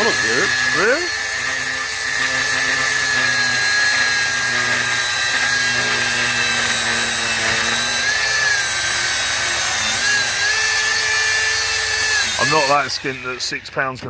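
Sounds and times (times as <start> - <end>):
power tool motor whining: 0.0 - 14.0.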